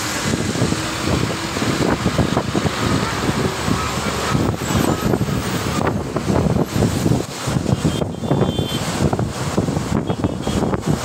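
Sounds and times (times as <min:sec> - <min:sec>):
bus road noise: 0:00.0 - 0:11.0
tyres on wet road: 0:00.0 - 0:11.0
wind buffeting microphone: 0:00.0 - 0:11.0.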